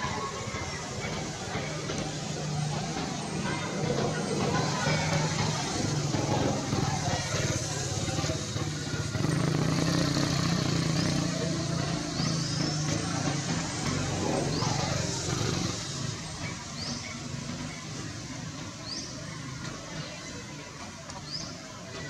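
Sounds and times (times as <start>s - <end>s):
outdoor background noise: 0.0s - 22.0s
vehicle engine hum: 0.0s - 22.0s.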